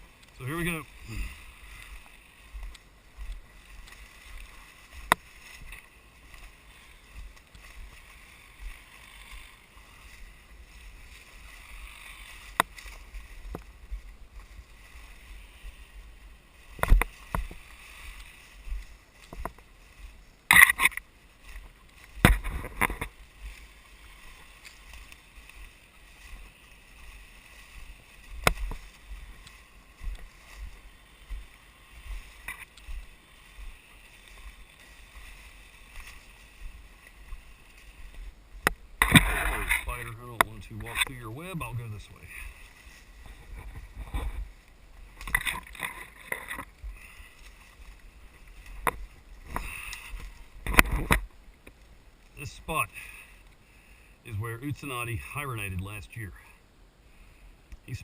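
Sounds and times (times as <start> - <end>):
footsteps through underbrush: 0.0 - 53.5.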